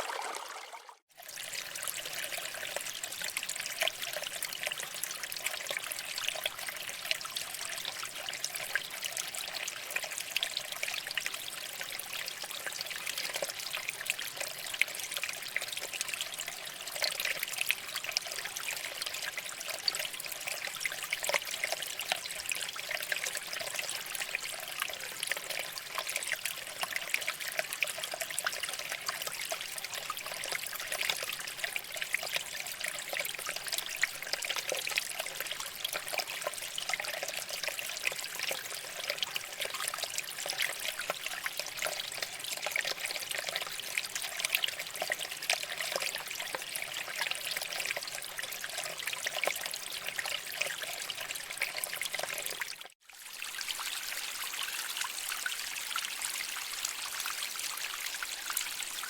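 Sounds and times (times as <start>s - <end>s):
water trickling over rocks: 0.0s - 59.0s.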